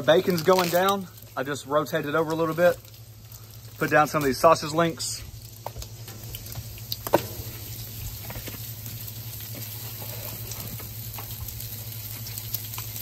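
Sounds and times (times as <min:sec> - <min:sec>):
crackles and pops: 0:00.0 - 0:13.0
meat sizzling on a griddle: 0:00.0 - 0:13.0
steady low hum: 0:01.0 - 0:13.0.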